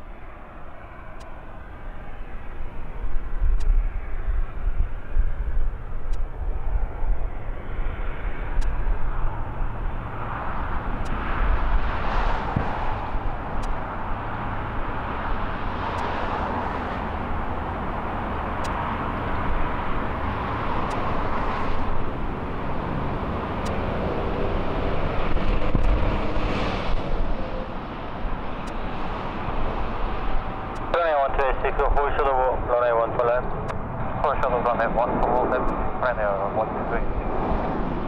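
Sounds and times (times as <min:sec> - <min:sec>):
jet engine rumble: 0:00.0 - 0:38.0.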